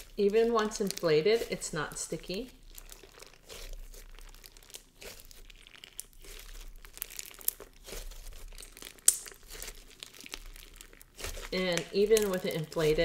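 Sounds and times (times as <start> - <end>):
slime crackling and popping: 0.0 - 13.0.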